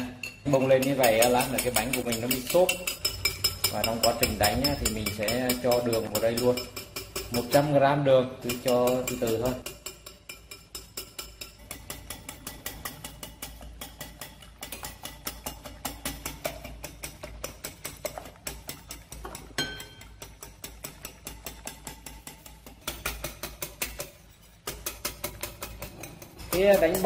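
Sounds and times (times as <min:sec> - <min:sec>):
whisk clicking against glass bowl: 0:00.0 - 0:07.8, 0:08.4 - 0:27.0.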